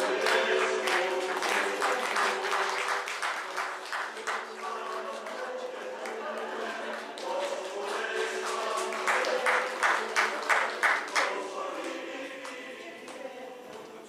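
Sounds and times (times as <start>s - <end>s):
hand claps: 0.0s - 13.2s
group of voices singing: 0.0s - 14.0s.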